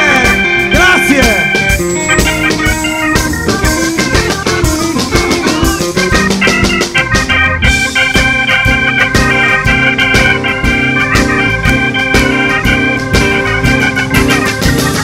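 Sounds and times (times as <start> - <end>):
organ chords: 0.0 - 15.0
steady drum beat: 0.0 - 15.0.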